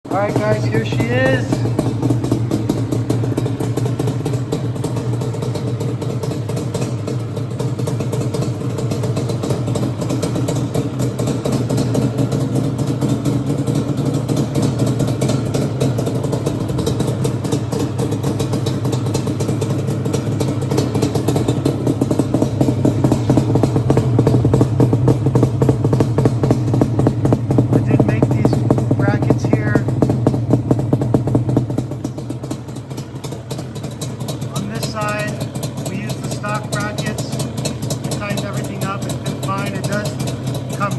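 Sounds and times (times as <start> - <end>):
off-road vehicle engine idling: 0.0 - 40.9.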